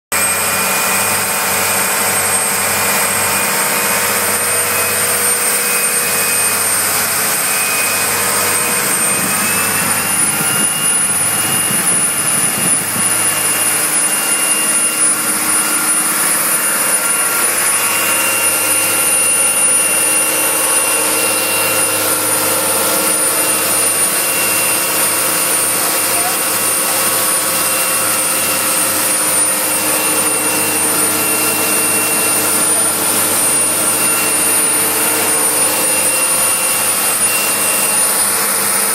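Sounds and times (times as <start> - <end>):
boat engines droning with whine: 0.2 - 38.9
churning wake rushing: 0.2 - 38.9.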